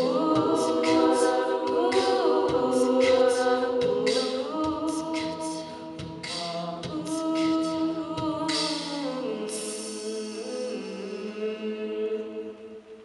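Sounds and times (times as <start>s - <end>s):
vocal percussion beats: 0.0s - 11.6s
women singing close harmony: 0.0s - 13.0s.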